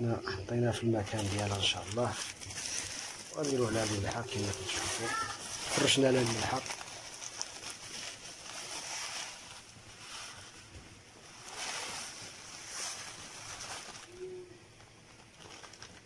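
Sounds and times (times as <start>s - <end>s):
plastic bag crinkling: 0.6s - 16.0s
salt grains pouring and hissing: 0.8s - 14.5s.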